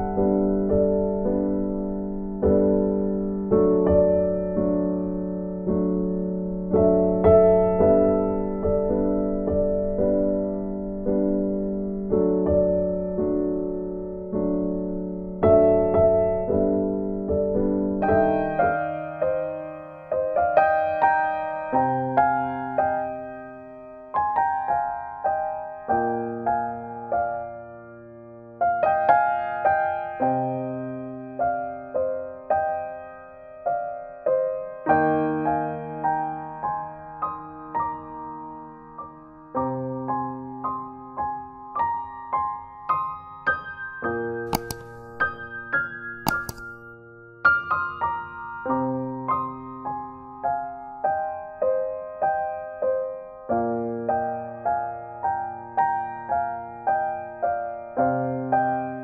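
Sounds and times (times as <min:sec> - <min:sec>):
soft piano music: 0:00.0 - 0:59.0.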